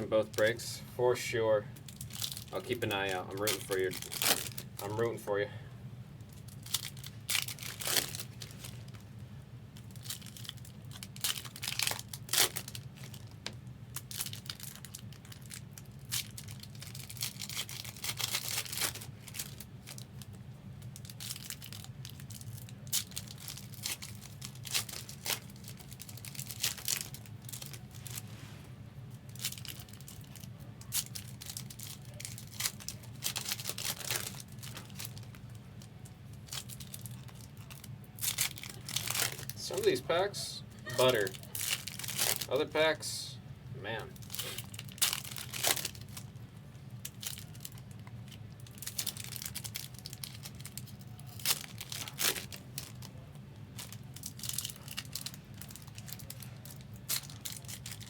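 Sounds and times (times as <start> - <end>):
steady low hum: 0.0 - 58.0
card pack wrappers tearing: 1.9 - 5.2, 6.4 - 9.0, 9.8 - 20.4, 21.0 - 28.2, 29.3 - 43.2, 43.9 - 58.0.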